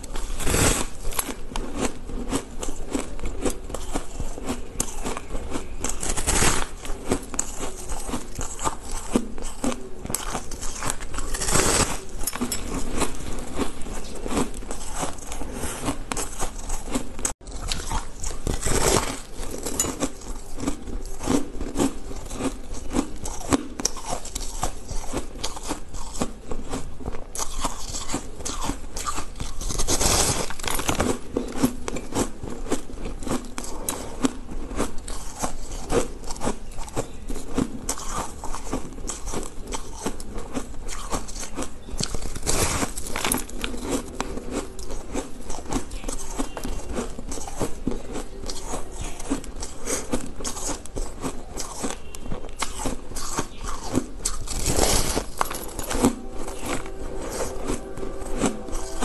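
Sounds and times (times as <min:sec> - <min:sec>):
person crunching ice: 0:00.0 - 0:59.0.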